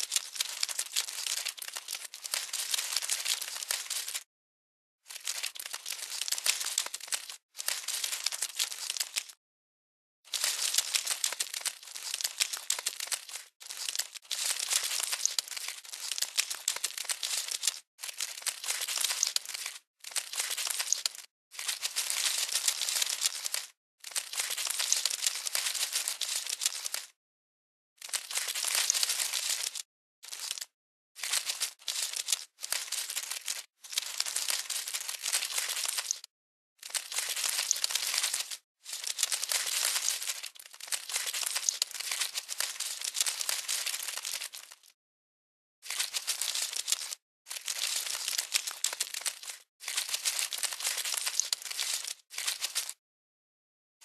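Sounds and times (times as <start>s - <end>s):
dry rustling and crinkling: 0.1s - 3.7s, 10.3s - 23.6s, 24.2s - 27.1s, 28.0s - 45.0s, 45.9s - 53.0s.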